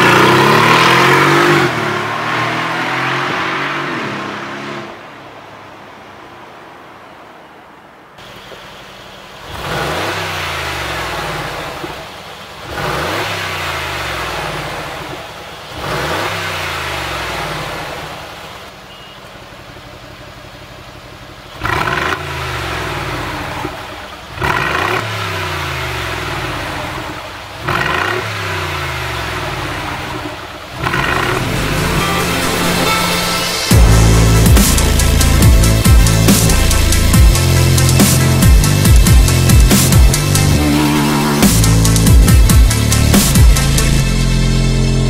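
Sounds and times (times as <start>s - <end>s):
car engine revving: 0.0s - 7.2s, 8.2s - 18.8s, 19.4s - 45.0s.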